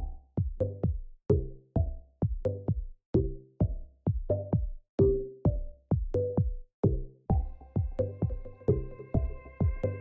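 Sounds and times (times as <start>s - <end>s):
electronic music with drum machine: 0.0s - 10.0s.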